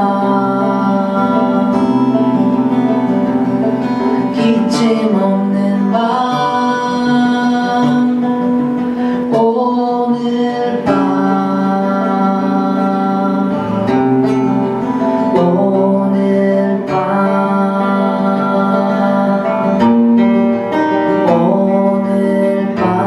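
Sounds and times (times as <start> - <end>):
acoustic guitar music: 0.0 - 23.0
long held melody notes: 0.0 - 23.0.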